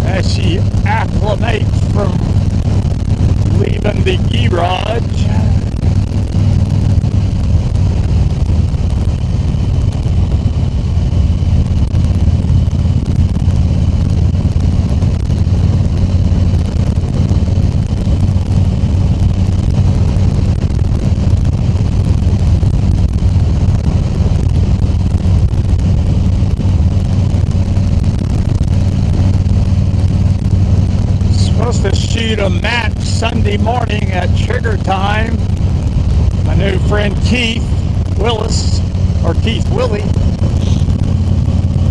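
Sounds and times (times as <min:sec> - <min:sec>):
motorcycle engine cruising: 0:00.0 - 0:41.9
wind rushing over microphone: 0:00.0 - 0:41.9.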